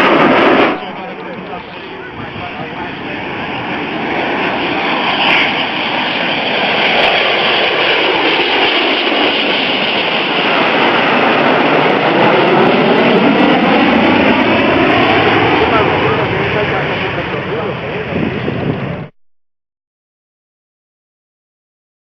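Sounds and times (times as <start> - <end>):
jet engine roaring: 0.0 - 19.1.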